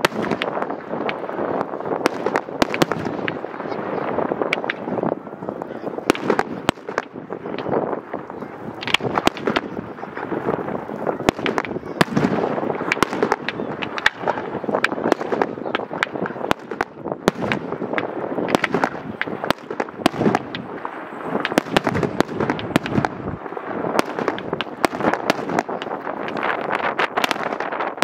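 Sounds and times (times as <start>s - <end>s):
fireworks cracking and banging: 0.0s - 28.0s.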